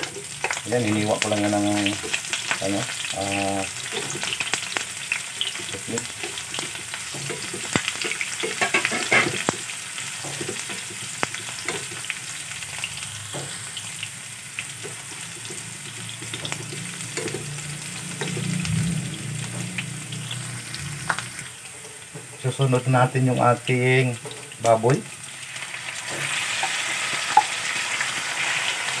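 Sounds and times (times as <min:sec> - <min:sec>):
onion sizzling in hot oil: 0:00.0 - 0:29.0.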